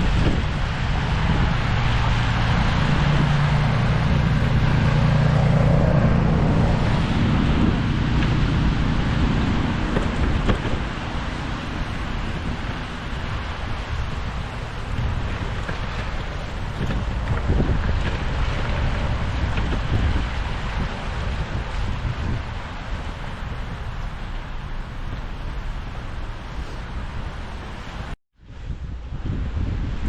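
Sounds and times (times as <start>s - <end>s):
low engine hum: 0.0s - 30.0s
steady traffic noise: 0.0s - 30.0s
wind buffeting microphone: 0.0s - 30.0s.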